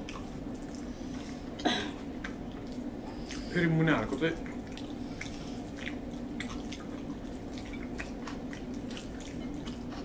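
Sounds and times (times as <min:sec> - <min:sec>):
wet chewing and lip smacks: 0:00.0 - 0:01.3, 0:02.2 - 0:03.5, 0:04.4 - 0:10.0
steady low hum: 0:00.0 - 0:10.0.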